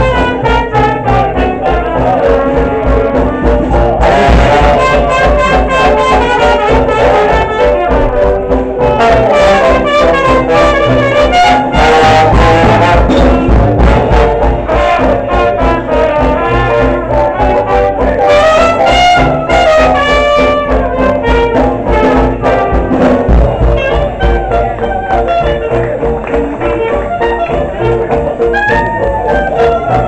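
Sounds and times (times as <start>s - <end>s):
jazz band playing live: 0.0s - 30.0s.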